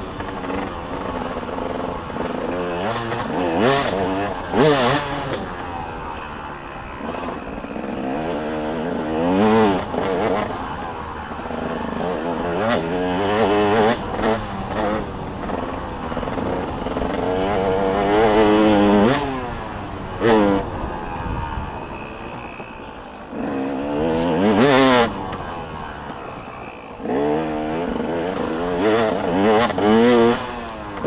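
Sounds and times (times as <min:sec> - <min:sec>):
dirt bikes revving: 0:00.0 - 0:31.0.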